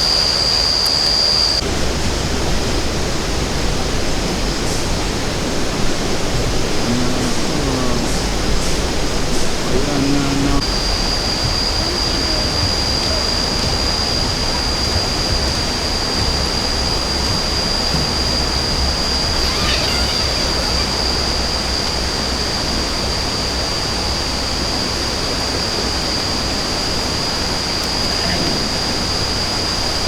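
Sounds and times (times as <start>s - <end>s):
high-pitched whine: 0.0s - 30.0s
rushing water: 0.0s - 30.0s.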